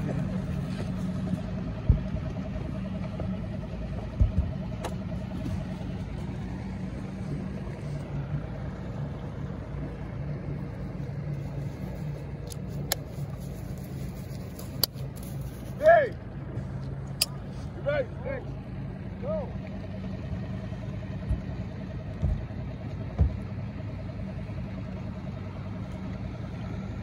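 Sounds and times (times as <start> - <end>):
outboard motor droning: 0.0 - 27.0.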